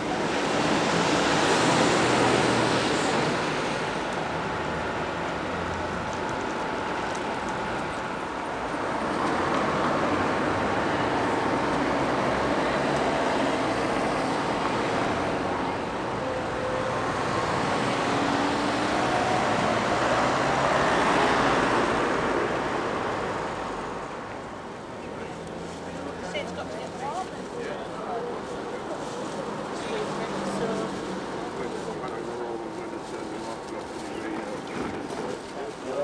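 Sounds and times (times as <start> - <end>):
vehicles passing on street: 0.0 - 36.0.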